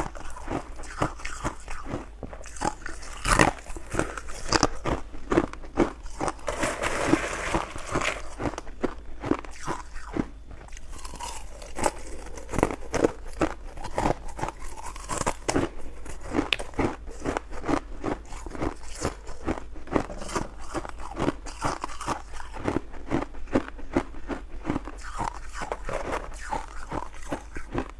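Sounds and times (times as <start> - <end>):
ice being chewed: 0.0 - 27.9.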